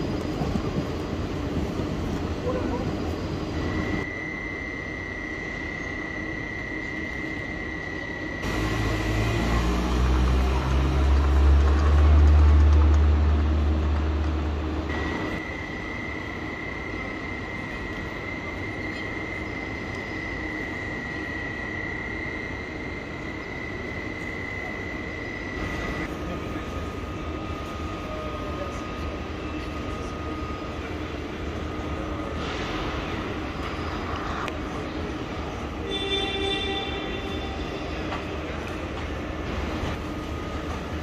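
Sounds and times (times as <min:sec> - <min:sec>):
electric train rumble: 0:00.0 - 0:41.0
station hall background noise: 0:00.0 - 0:41.0
steady high-pitched whine: 0:00.0 - 0:41.0.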